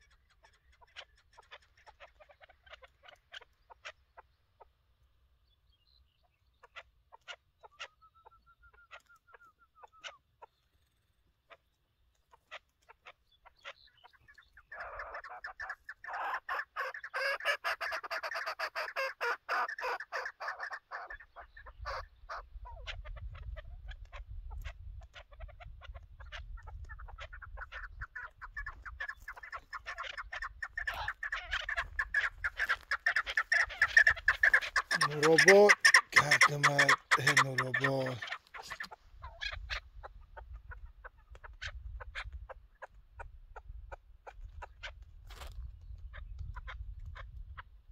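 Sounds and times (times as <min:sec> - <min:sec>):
partridge chattering calls: 0:00.0 - 0:04.8, 0:05.7 - 0:45.0.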